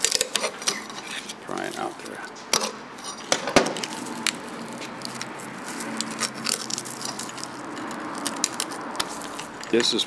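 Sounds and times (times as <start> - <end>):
seal cracking and crunching: 0.0 - 2.1, 3.8 - 10.0.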